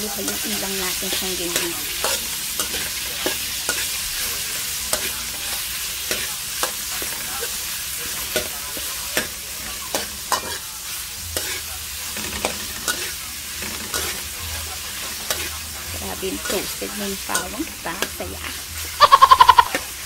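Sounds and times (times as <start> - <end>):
beef sizzling in a wok: 0.0 - 20.0
metal spatula scraping a pan: 0.1 - 20.0.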